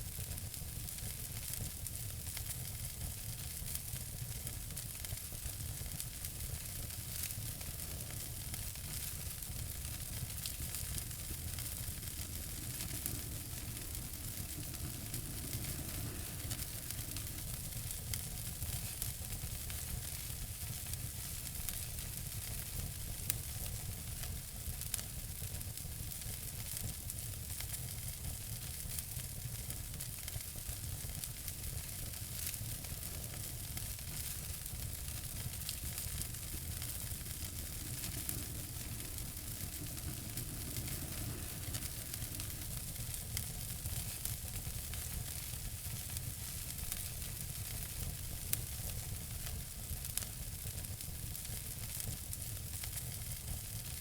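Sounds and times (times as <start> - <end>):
fire crackling: 0.0 - 54.0
wood fire hissing: 0.0 - 54.0
sharp fire pops: 4.4 - 25.6, 26.2 - 54.0.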